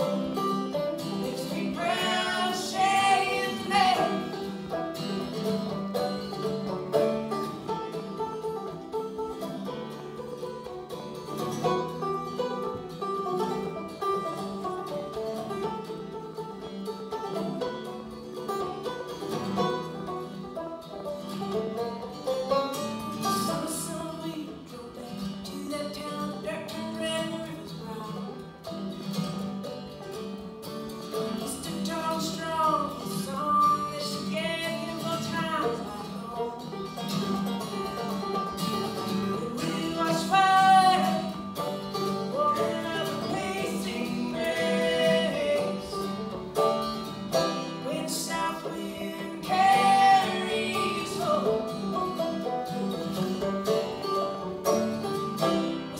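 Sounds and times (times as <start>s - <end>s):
acoustic guitar playing: 0.0s - 55.9s
banjo playing: 0.0s - 55.9s.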